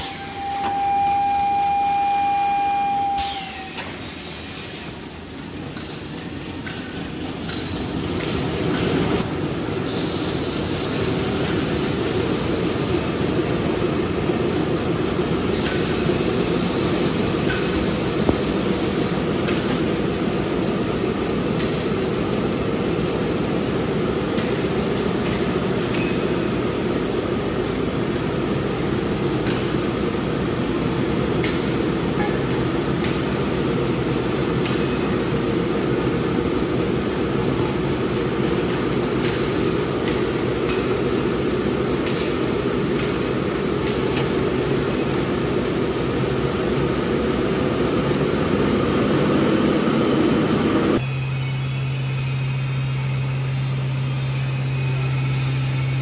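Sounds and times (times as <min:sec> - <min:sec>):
steady machinery drone: 0:00.0 - 0:56.0.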